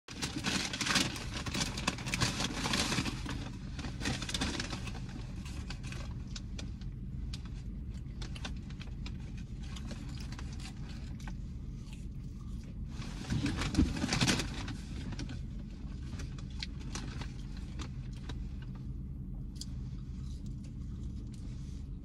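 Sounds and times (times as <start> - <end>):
paper bag and wrappers rustling: 0.1 - 18.9
car cabin hum: 1.0 - 22.0.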